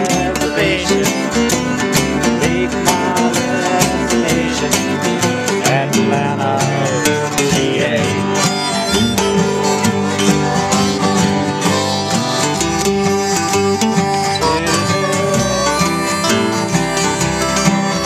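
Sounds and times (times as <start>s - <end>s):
live band instrumental with guitar: 0.0s - 18.0s.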